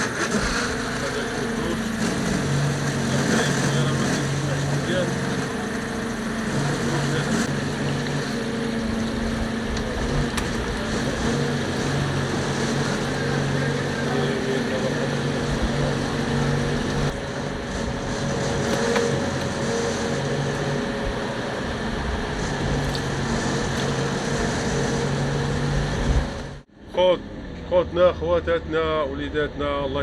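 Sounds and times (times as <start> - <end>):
sea noise: 0.0 - 28.8
boat engine running: 0.0 - 30.0
wind: 0.0 - 30.0.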